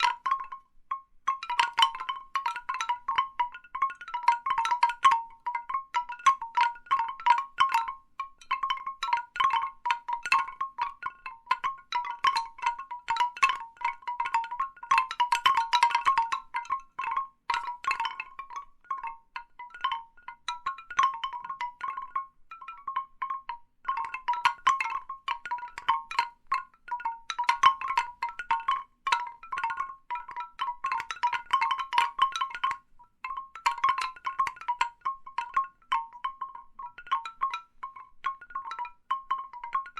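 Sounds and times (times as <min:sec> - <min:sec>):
bamboo wind chimes knocking: 0:00.0 - 0:39.9.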